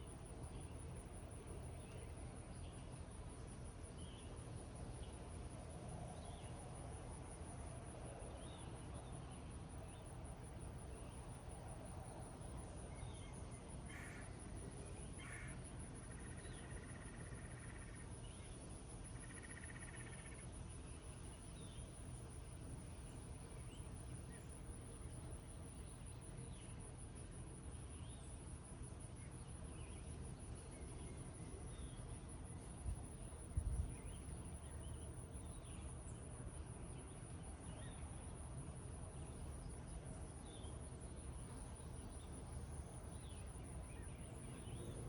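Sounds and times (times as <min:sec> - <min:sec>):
high insect trill: 0:06.1 - 0:45.0.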